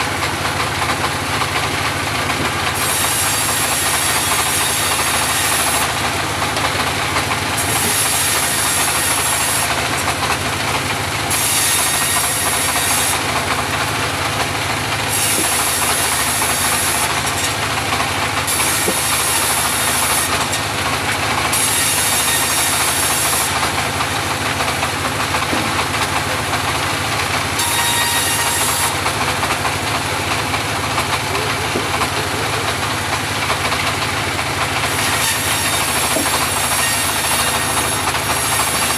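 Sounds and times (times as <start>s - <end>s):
bandsaw sawmill running: 0.0s - 38.9s.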